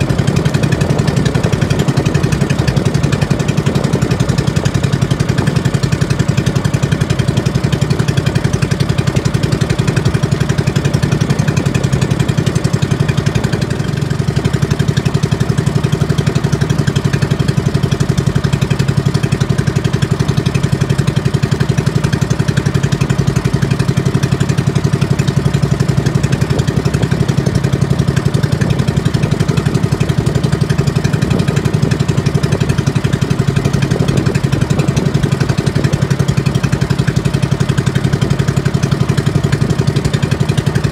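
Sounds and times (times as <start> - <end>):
small boat engine running: 0.0 - 40.9.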